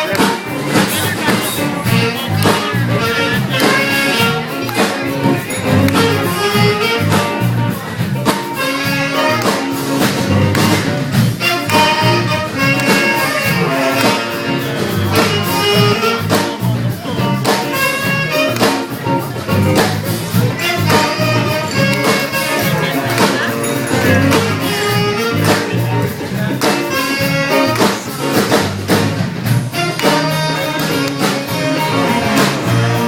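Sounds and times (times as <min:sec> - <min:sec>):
small jazz band playing: 0:00.0 - 0:33.0.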